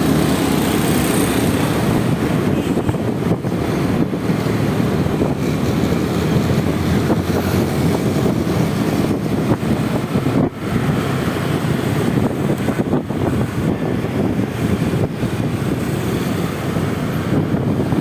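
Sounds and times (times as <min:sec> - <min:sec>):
road noise: 0:00.0 - 0:18.0
scooter engine: 0:00.0 - 0:18.0
traffic: 0:00.0 - 0:18.0
wind on microphone: 0:00.0 - 0:18.0.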